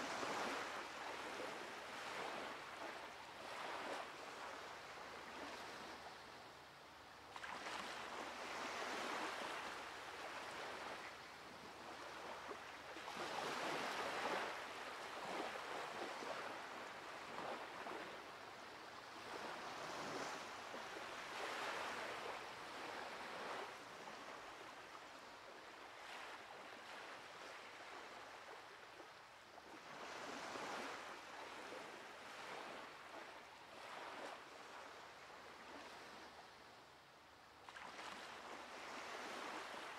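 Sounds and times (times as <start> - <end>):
waves washing up a beach: 0.0 - 39.9.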